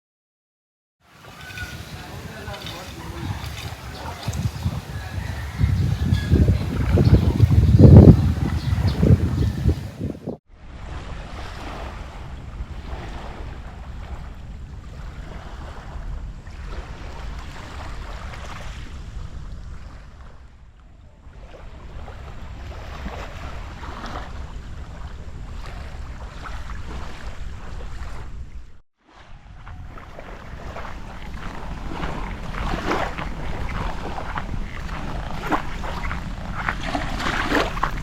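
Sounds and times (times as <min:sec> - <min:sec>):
sea waves washing on shore: 0:01.0 - 0:38.0
wind buffeting microphone: 0:01.1 - 0:38.0.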